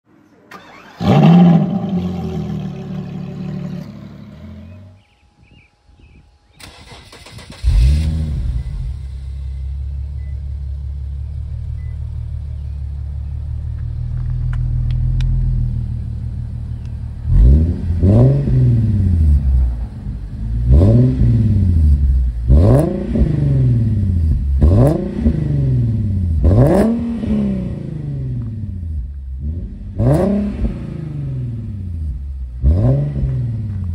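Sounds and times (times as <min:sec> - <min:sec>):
car engine revving and idling: 0:00.6 - 0:05.1, 0:06.8 - 0:33.9.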